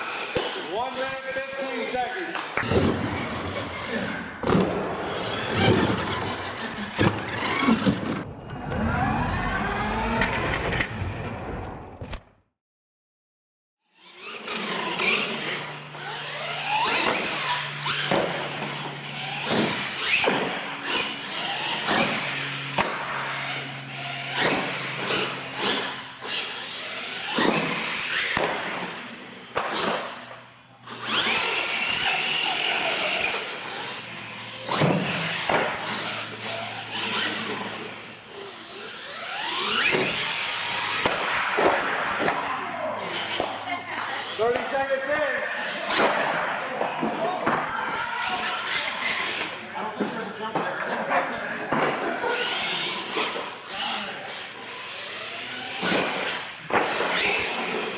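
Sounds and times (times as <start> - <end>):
toy truck motors whining: 0.0 - 8.2, 8.8 - 10.2, 13.9 - 50.3, 51.8 - 57.9.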